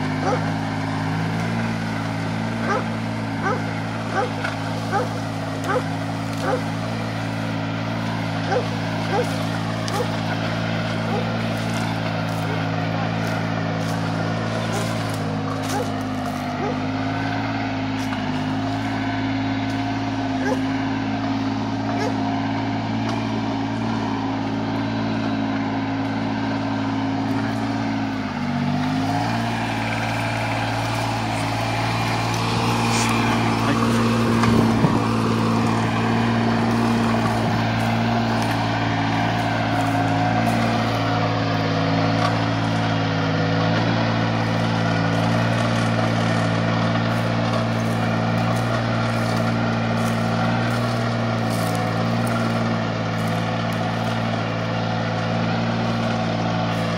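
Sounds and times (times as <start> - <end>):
tractor engine running under load: 0.0 - 56.9.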